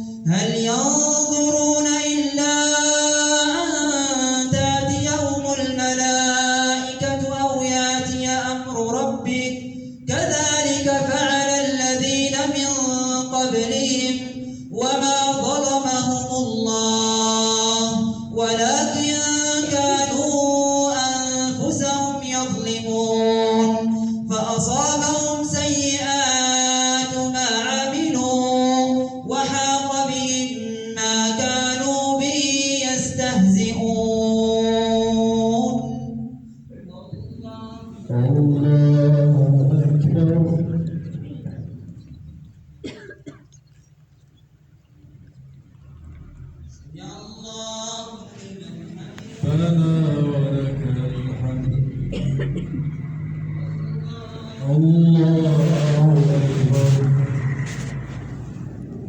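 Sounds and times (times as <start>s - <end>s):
man chanting recitation: 0.0s - 43.3s, 45.1s - 59.0s.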